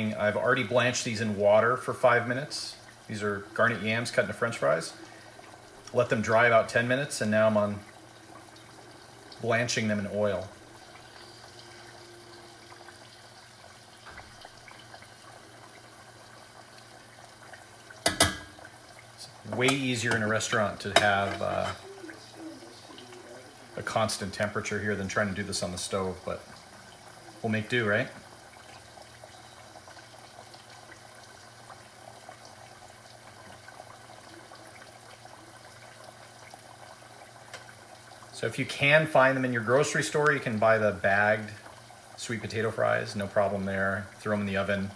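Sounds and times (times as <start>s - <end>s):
fries bubbling in oil: 0.0s - 44.9s
faint crackles: 6.9s - 44.3s.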